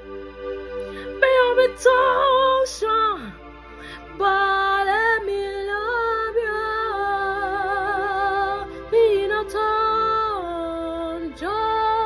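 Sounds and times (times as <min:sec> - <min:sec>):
woman singing gospel: 0:01.2 - 0:03.4, 0:04.2 - 0:12.0.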